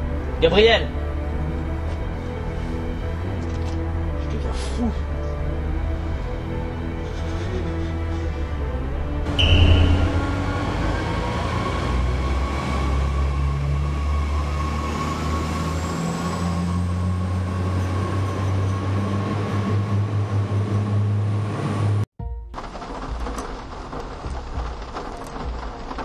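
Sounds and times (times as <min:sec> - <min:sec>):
train low drone: 0:00.0 - 0:22.0.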